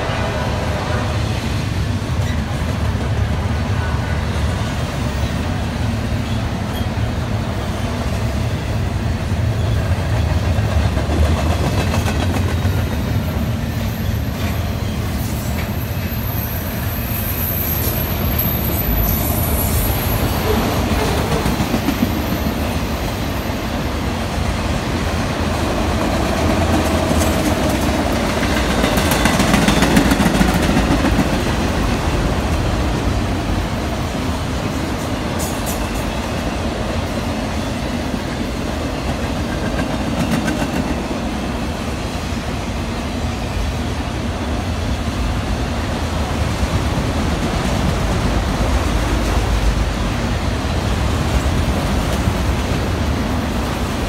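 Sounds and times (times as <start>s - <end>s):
freight train rolling past: 0.0s - 54.0s
steel wheels rattling on rails: 1.8s - 54.0s.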